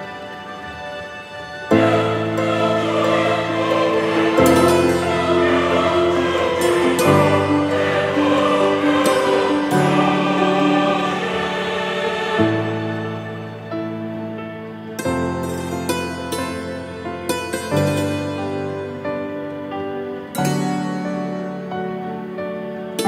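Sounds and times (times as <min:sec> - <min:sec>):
slow held music chords: 0:01.7 - 0:22.1.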